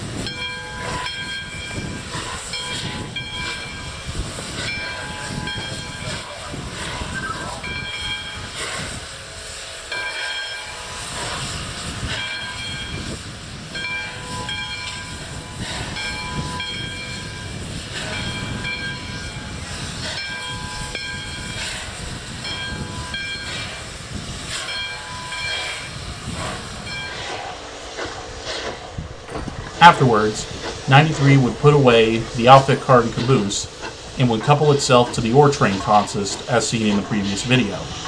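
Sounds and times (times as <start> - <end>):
steam locomotive hissing: 0.0 - 38.0.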